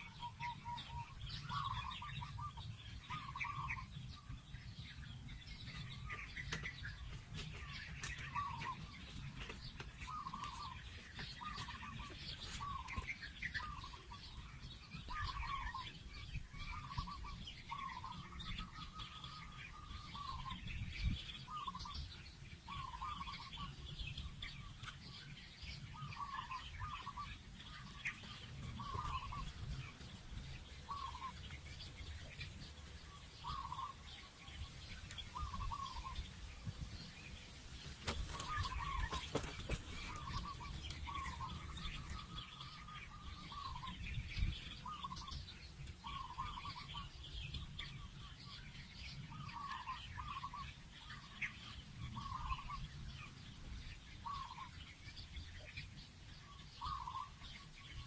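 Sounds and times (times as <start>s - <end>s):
birds calling: 0.0s - 58.0s.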